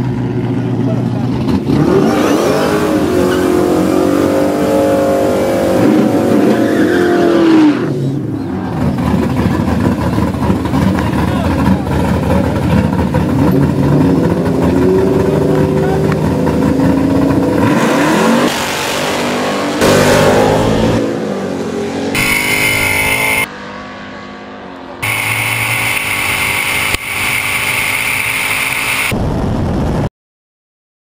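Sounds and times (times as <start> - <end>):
drag car engines launching: 0.7 - 23.5, 24.8 - 29.2.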